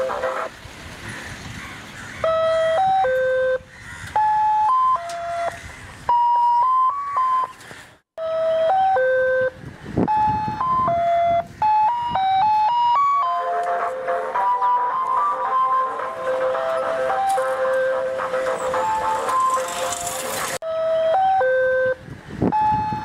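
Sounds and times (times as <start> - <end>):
electronic ice cream van jingle: 0.0 - 0.5, 2.2 - 7.6, 8.2 - 23.0.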